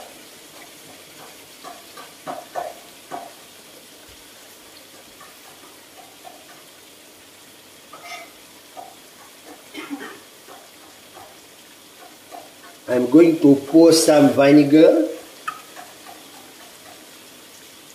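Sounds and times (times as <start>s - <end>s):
food sizzling in a wok: 0.0s - 17.9s.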